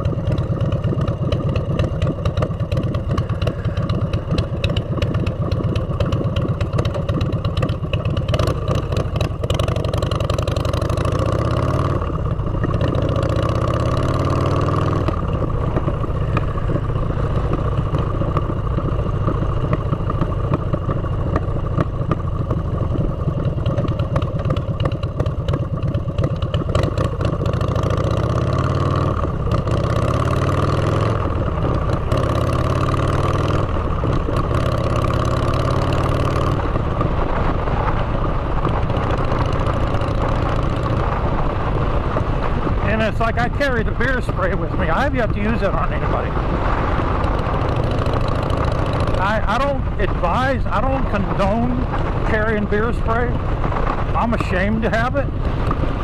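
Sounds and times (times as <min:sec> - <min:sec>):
motorcycle exhaust note: 0:00.0 - 0:56.0.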